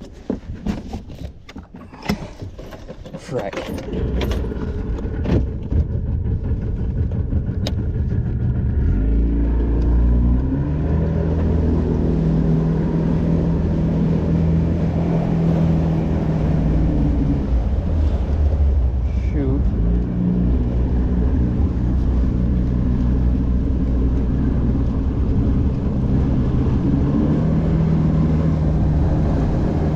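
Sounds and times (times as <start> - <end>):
outboard motor droning: 1.6 - 29.9.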